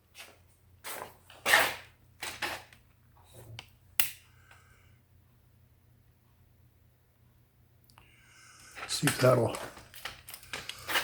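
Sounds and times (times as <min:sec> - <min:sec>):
low steady hum: 0:00.4 - 0:11.0.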